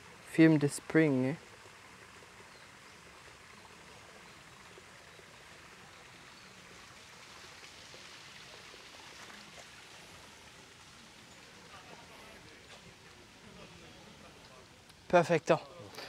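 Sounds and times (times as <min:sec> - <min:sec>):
running water: 0:00.0 - 0:16.0.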